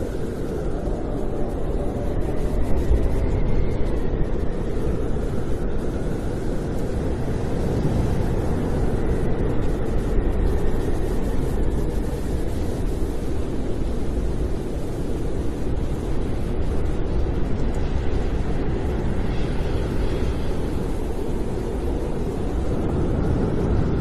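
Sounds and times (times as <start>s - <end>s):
faint wind whistle: 0.0s - 24.0s
snowstorm wind rumbling: 0.0s - 24.0s.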